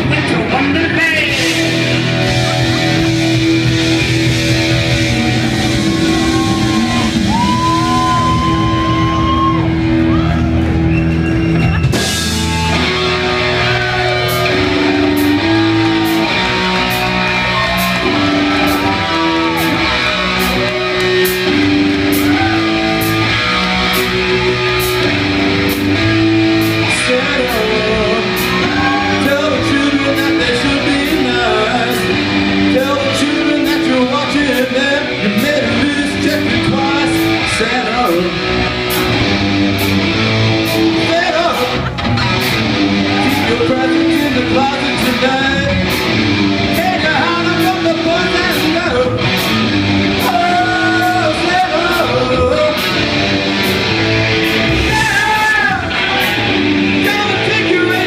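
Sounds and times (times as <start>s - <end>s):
electric guitar lead: 0.0s - 58.0s
heavy metal band playing: 0.0s - 58.0s.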